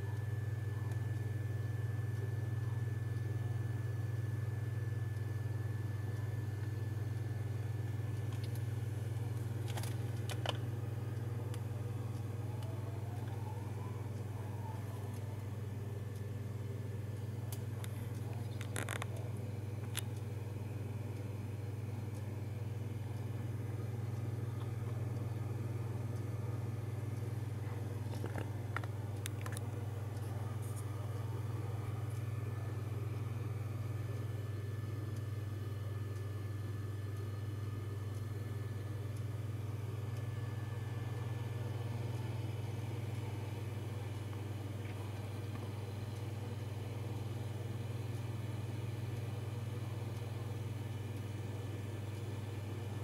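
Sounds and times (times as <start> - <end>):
server and switch humming: 0.0 - 53.0.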